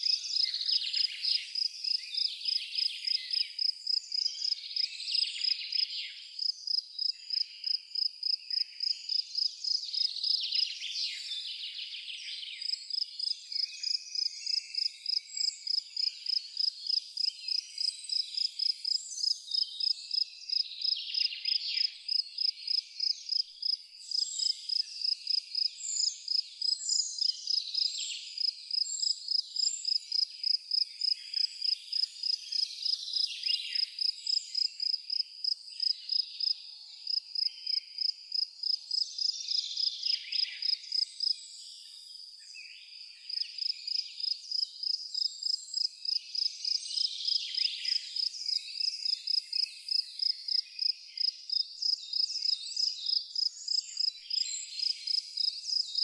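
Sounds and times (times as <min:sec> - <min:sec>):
cricket chirping: 0:00.0 - 0:10.6, 0:12.6 - 0:42.3, 0:42.9 - 0:56.0.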